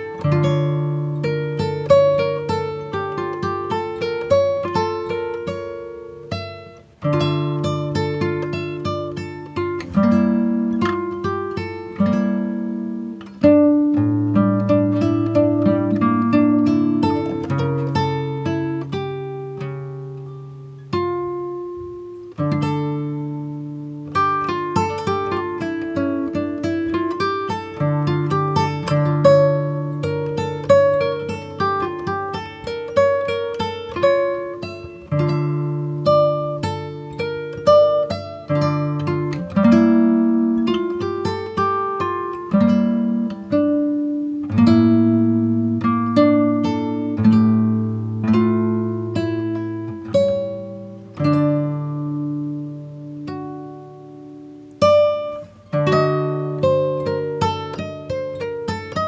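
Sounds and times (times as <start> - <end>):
acoustic guitar plucking chords: 0.0 - 59.0.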